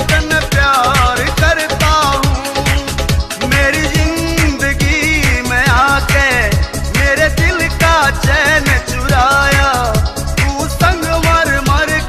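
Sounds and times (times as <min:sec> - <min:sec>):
loud dance music: 0:00.0 - 0:12.0.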